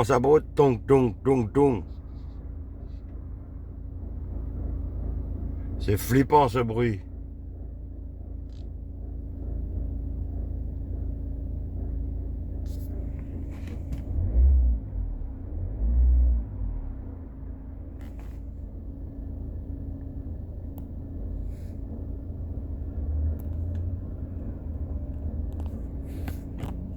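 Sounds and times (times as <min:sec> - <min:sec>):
car engine rumbling: 0:00.0 - 0:26.9
engine juddering surges: 0:00.0 - 0:26.9.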